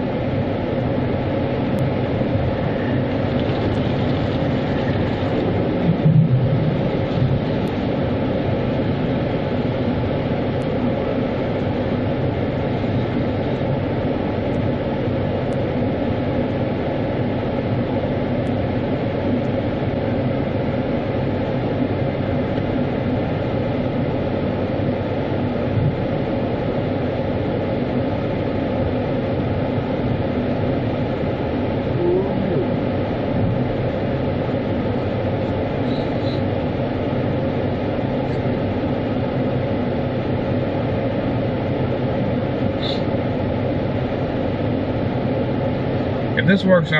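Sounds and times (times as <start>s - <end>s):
vehicle rumble with low hum: 0.0s - 46.9s.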